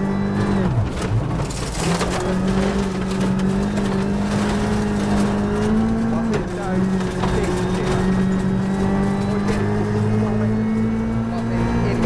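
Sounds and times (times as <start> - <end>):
gravel clicking against car: 0.0 - 11.4
rally car engine at high revs: 0.0 - 12.0.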